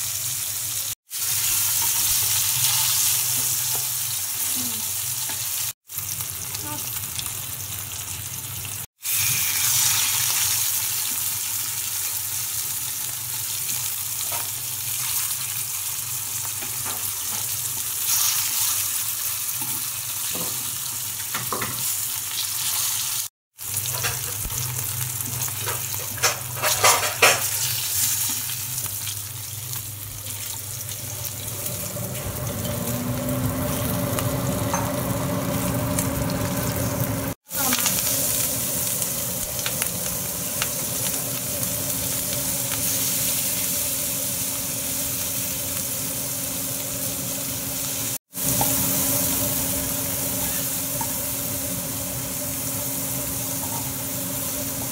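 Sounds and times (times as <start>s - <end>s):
fish sizzling in hot oil: 0.0s - 54.9s
onions and chillies frying: 0.0s - 54.9s.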